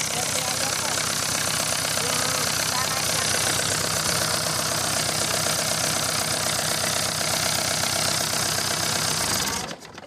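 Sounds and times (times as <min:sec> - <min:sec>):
diesel engine idling: 0:00.0 - 0:09.8.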